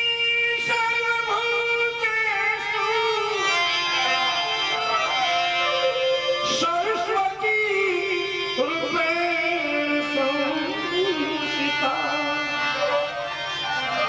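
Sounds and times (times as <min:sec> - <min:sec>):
instrumental accompaniment: 0:00.0 - 0:14.0
person singing wordless melody: 0:00.0 - 0:14.0.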